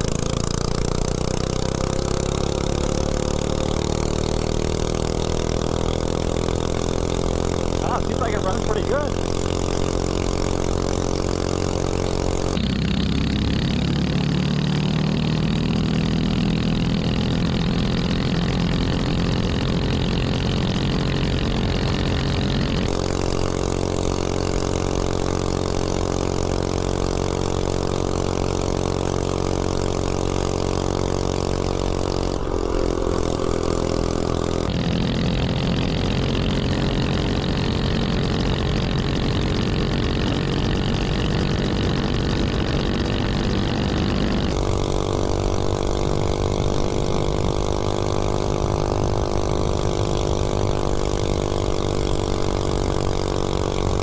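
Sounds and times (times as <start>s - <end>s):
road noise: 0.0s - 14.4s, 15.0s - 54.0s
small engine running hard: 0.0s - 54.0s.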